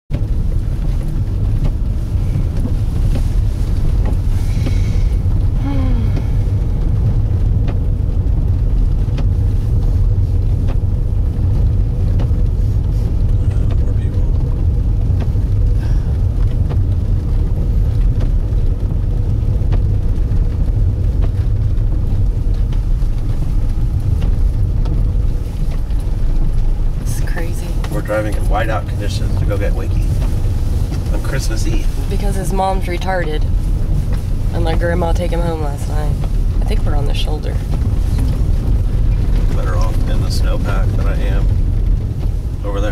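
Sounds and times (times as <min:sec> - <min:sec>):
car engine and tyre rumble: 0:00.1 - 0:42.9.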